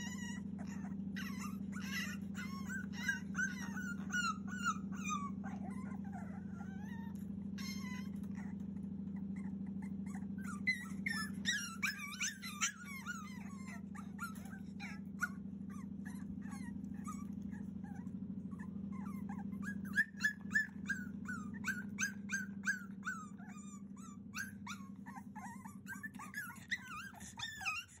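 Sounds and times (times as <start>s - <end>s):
puppy whining and yelping: 0.0s - 28.0s
steady low hum: 0.0s - 28.0s.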